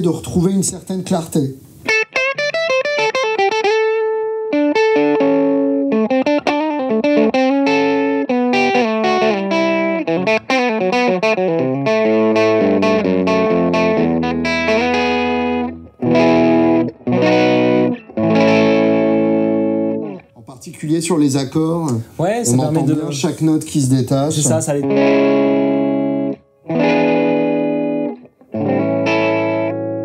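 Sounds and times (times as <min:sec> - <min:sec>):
overdriven electric guitar: 0:01.6 - 0:20.4, 0:24.4 - 0:30.0.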